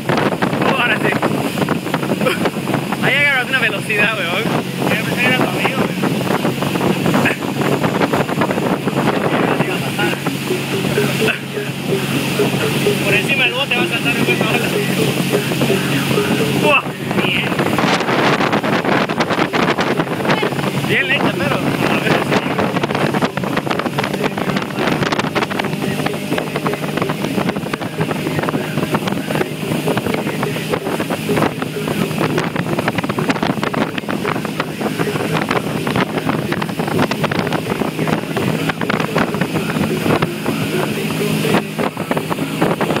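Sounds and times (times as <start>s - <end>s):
motorboat engine running: 0.0s - 43.0s
wind buffeting microphone: 0.0s - 43.0s.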